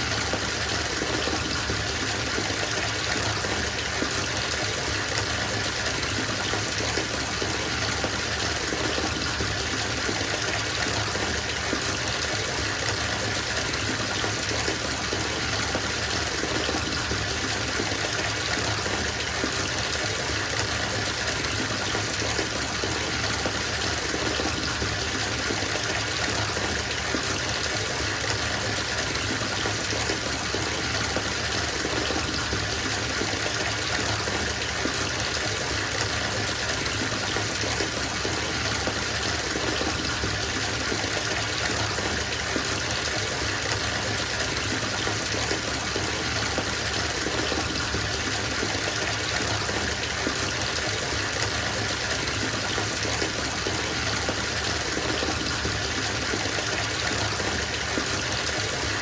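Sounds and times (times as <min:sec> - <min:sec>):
water gushing from bathtub tap: 0:00.0 - 0:59.0.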